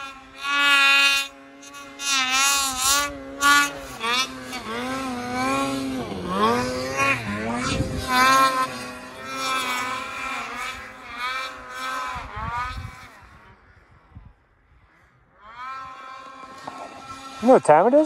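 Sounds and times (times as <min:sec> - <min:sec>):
snowmobile engine revving: 0:00.0 - 0:18.0.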